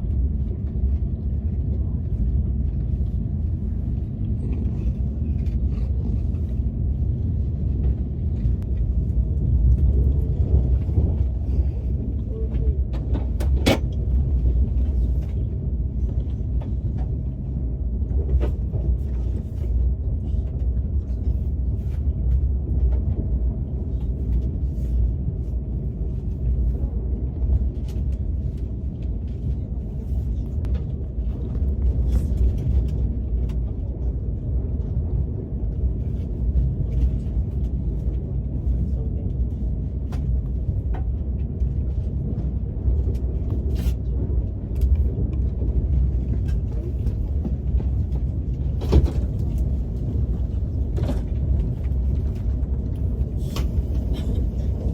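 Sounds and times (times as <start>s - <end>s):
train cabin rumble: 0.0s - 54.9s.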